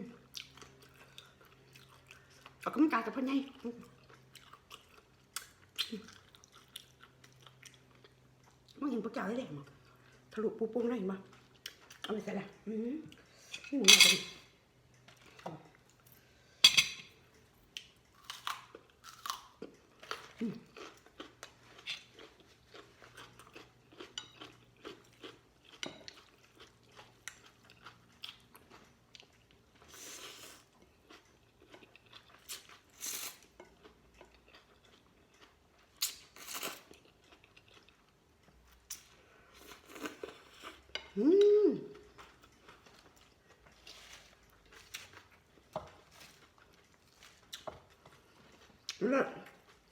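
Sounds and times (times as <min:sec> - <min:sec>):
close-up chewing and crunching: 0:00.0 - 0:13.3, 0:17.2 - 0:41.2, 0:41.9 - 0:49.9.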